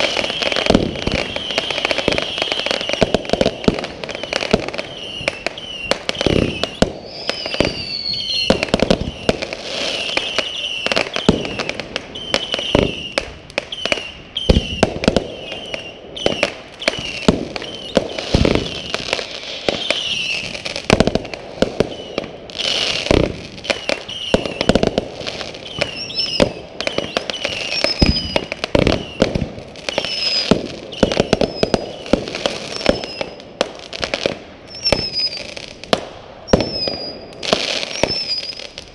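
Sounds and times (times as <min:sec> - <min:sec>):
fireworks bangs and crackles: 0:00.0 - 0:38.9
high whistling fireworks: 0:00.0 - 0:38.9.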